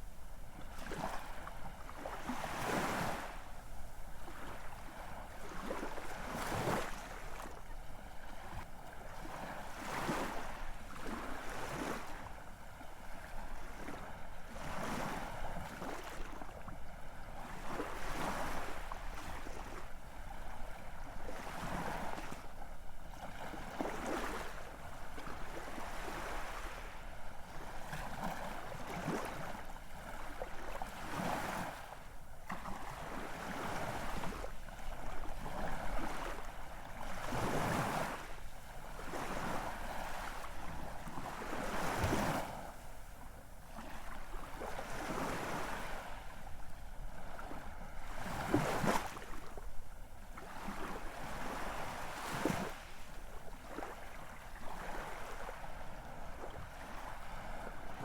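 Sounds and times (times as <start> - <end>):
waves breaking and washing in: 0.0 - 58.0.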